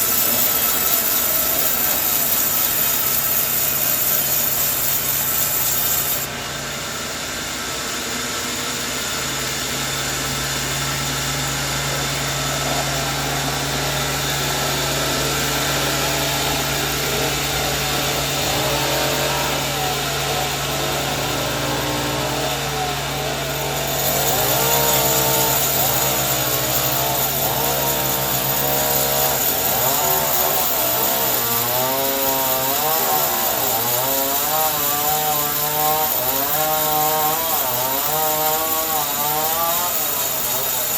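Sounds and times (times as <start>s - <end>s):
motor hum: 0.0s - 36.3s
saw blade whine: 0.0s - 40.9s.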